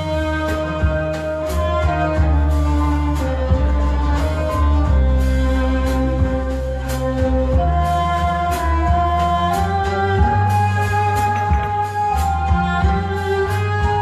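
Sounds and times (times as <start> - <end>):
heavy bass line: 0.0 - 14.0
keyboard: 0.0 - 14.0
oud: 0.0 - 14.0
violin melody: 0.0 - 14.0.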